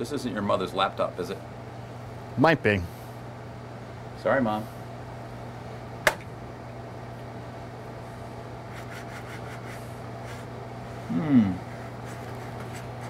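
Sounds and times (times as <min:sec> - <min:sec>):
low room and equipment hum: 0:00.0 - 0:13.0.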